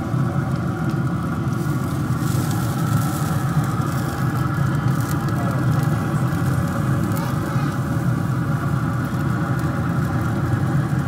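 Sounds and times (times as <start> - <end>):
low mechanical motor hum: 0.0 - 11.0.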